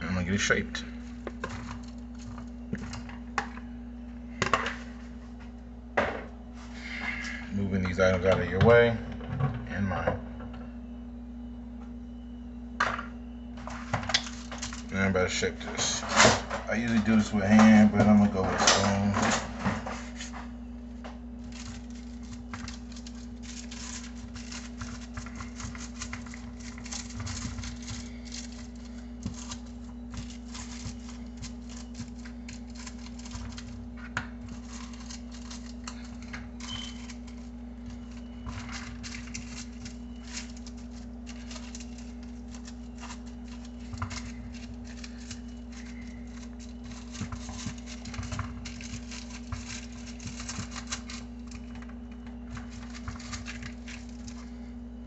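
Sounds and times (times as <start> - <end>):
low hum: 0.0 - 55.0
parchment paper crinkling: 0.3 - 3.7, 13.6 - 54.8.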